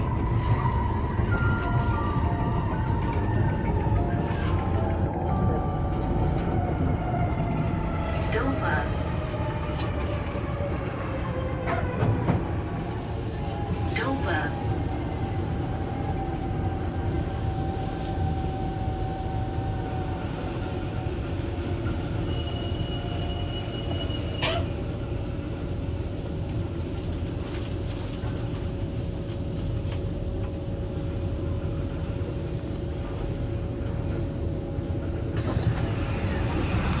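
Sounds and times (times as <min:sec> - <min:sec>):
train rumble: 0:00.0 - 0:37.0.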